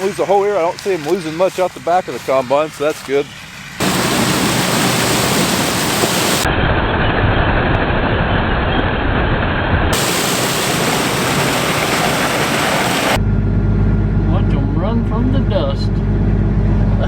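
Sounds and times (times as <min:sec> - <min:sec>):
combine harvester running: 0:00.0 - 0:06.7, 0:09.4 - 0:17.0.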